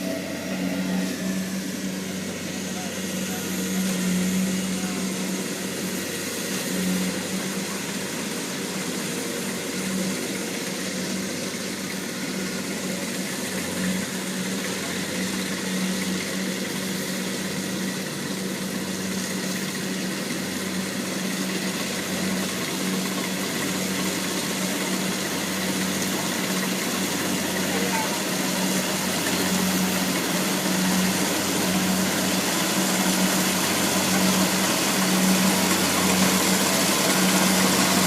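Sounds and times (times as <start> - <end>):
diesel engine low drone: 0.0 - 38.0
machinery noise: 0.0 - 38.0.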